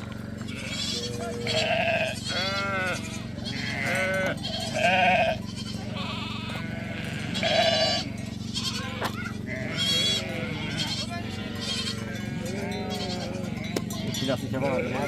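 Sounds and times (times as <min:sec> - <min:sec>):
sheep and goats bleating: 0:00.0 - 0:15.0.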